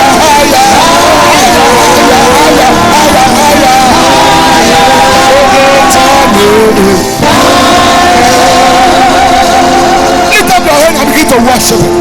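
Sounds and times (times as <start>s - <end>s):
gospel worship singing: 0.0s - 12.0s.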